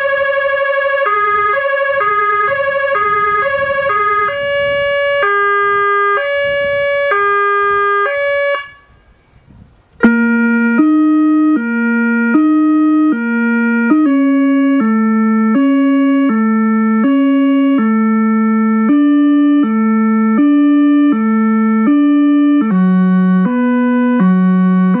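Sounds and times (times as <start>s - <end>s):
electronic siren two-tone: 0.0s - 9.1s, 10.0s - 25.0s
deep low siren note: 0.0s - 9.2s, 10.0s - 25.0s.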